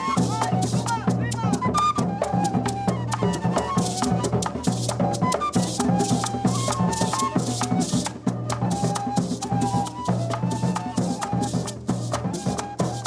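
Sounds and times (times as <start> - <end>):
drum beats: 0.0 - 13.0
flute sliding melody: 0.0 - 13.0
maraca shaking: 0.0 - 13.0.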